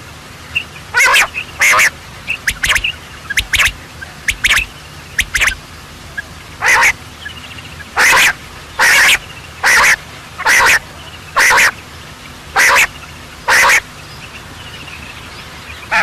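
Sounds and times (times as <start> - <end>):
birds calling harshly: 0.0 - 16.0.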